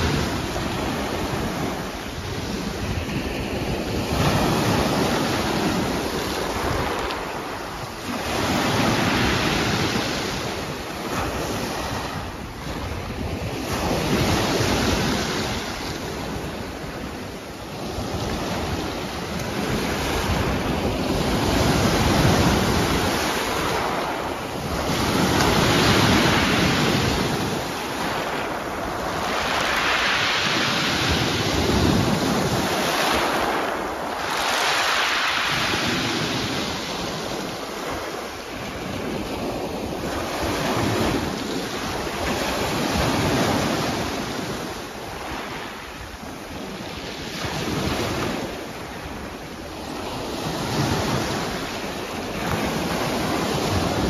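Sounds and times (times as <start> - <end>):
waves breaking on pebble beach: 0.0 - 54.0
wind buffeting microphone: 0.0 - 54.0.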